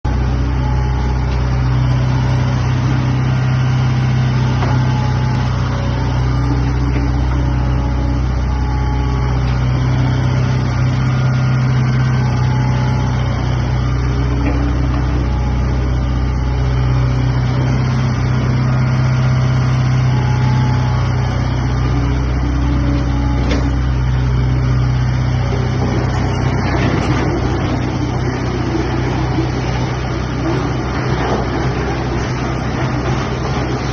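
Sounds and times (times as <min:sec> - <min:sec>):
excavator diesel engine humming: 0:00.1 - 0:33.9.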